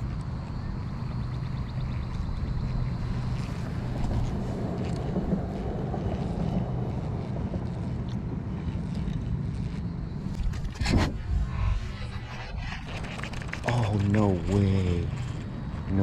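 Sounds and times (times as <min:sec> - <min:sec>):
low motor hum: 0:00.0 - 0:16.0
wind noise on microphone: 0:02.0 - 0:16.0.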